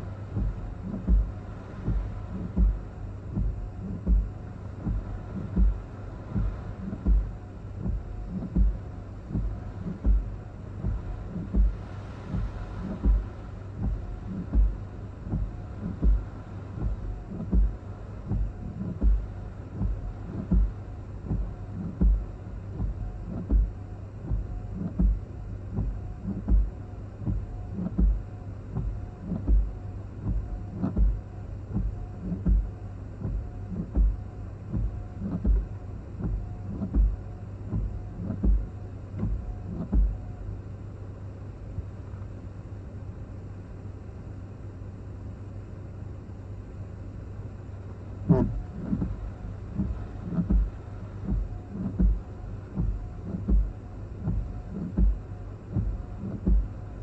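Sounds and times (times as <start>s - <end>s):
windshield wipers thumping: 0.0s - 40.4s, 41.6s - 42.4s, 47.7s - 57.0s
car low hum: 0.0s - 57.0s.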